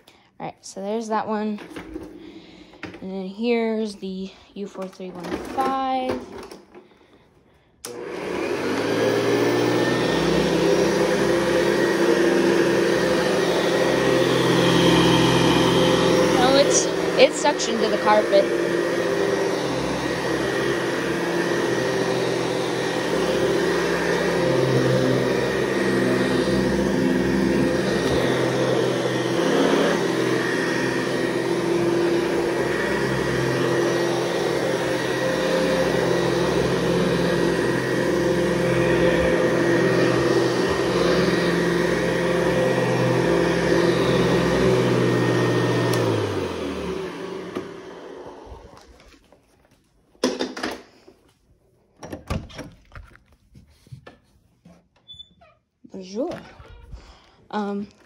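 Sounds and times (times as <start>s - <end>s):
vacuum cleaner running: 0.0s - 51.4s, 56.0s - 58.0s.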